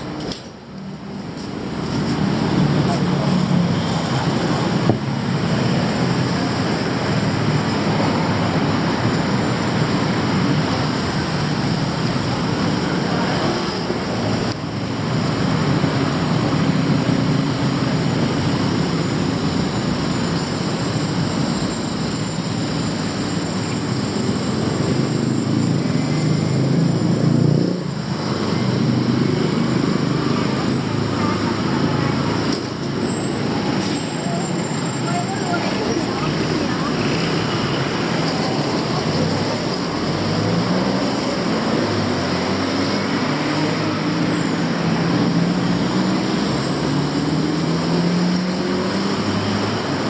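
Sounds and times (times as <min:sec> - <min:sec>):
city street traffic rumble: 0:00.0 - 0:50.0.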